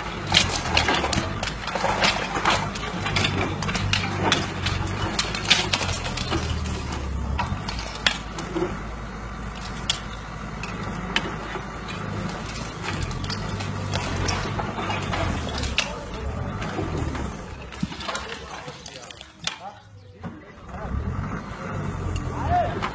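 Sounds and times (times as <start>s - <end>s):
masonry cracking and falling: 0.0s - 20.6s
diesel engine running: 0.0s - 22.9s.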